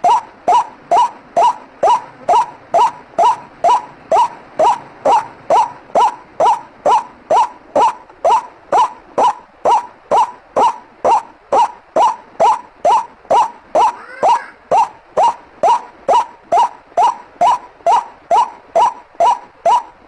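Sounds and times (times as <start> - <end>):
bird call recording: 0.0 - 20.0.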